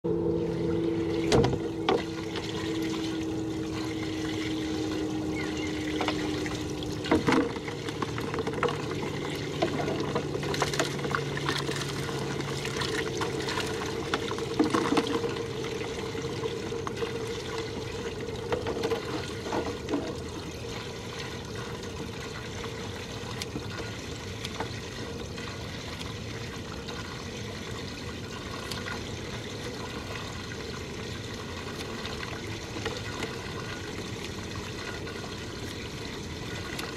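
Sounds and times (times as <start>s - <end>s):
faint steady hum: 0.1s - 36.9s
water sloshing around boat hull: 0.1s - 36.9s.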